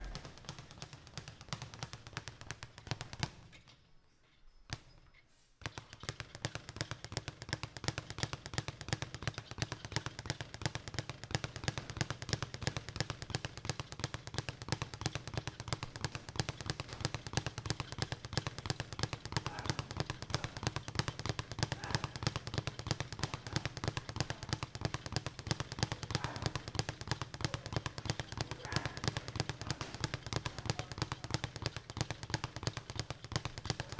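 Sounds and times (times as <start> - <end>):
speed bag being punched: 0.0 - 3.5, 5.6 - 33.9.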